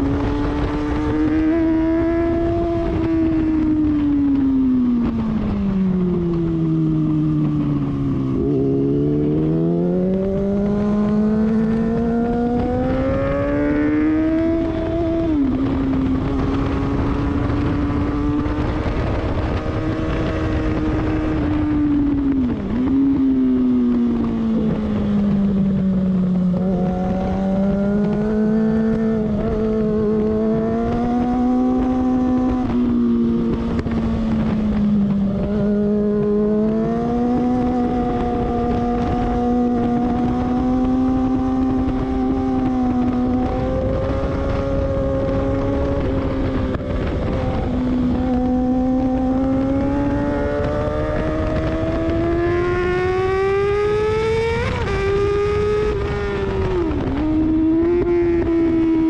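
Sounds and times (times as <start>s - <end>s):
motorcycle engine running hard: 0.0s - 59.0s
wind rush: 0.0s - 59.0s.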